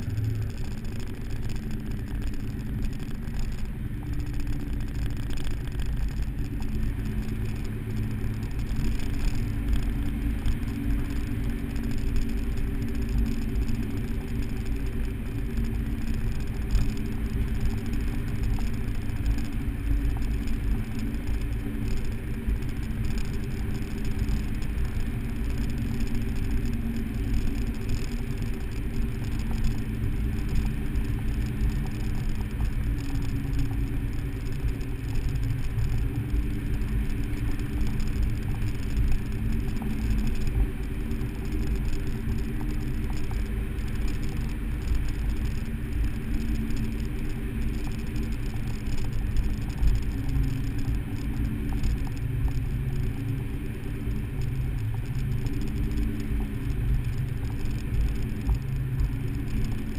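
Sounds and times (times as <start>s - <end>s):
car engine running while driving: 0.0s - 59.9s.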